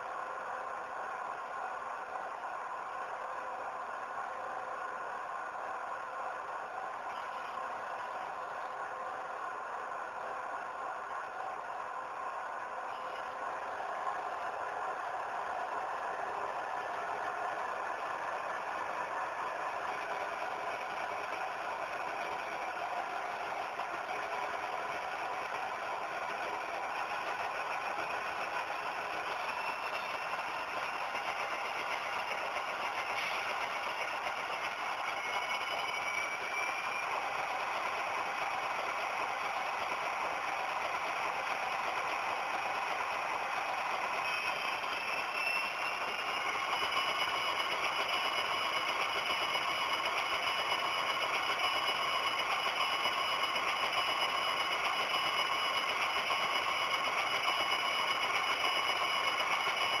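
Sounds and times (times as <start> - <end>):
model locomotive droning: 0.0 - 60.0.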